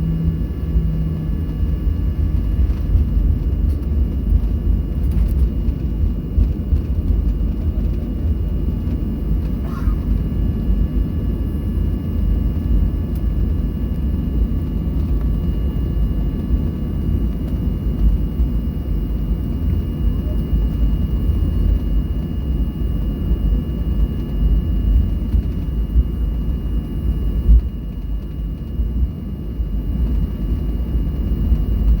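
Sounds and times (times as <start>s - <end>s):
jet engines heard from cabin: 0.0s - 32.0s.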